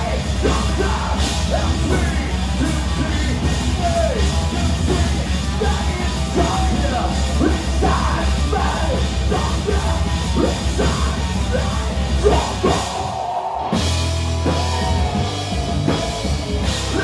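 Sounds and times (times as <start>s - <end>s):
heavy metal band playing: 0.0s - 17.0s.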